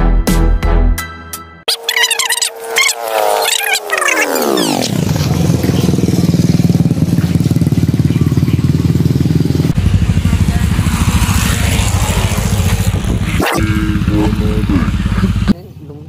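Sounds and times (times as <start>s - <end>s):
small motorcycle engine running: 1.7s - 16.0s.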